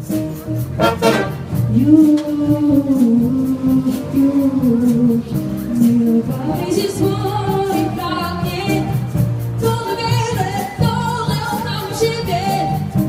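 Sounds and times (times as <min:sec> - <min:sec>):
big band melody: 0:00.0 - 0:13.0
steady cymbal beat: 0:00.0 - 0:13.0.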